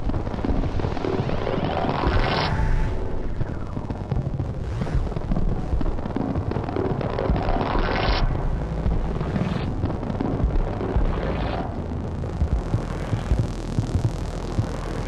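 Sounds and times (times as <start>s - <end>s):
dense electronic rumble: 0.0s - 15.0s
steady low hum: 0.0s - 15.0s.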